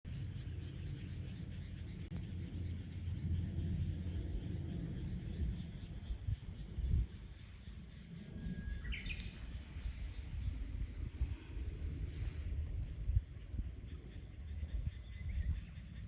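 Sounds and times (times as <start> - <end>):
low rumble: 0.0 - 16.0
insect chirping: 0.1 - 16.0.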